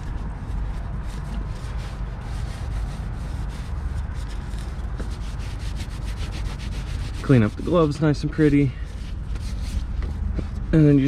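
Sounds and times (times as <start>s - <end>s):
hand rubbing engine underside: 0.0s - 11.0s
steady low rumble: 0.0s - 11.0s.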